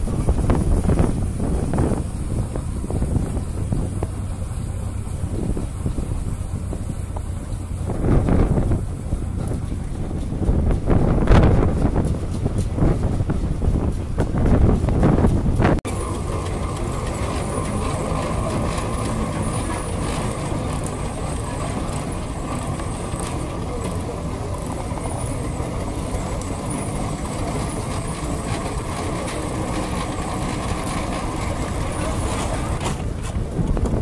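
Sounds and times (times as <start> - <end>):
steam roller rumbling: 0.0 - 34.0.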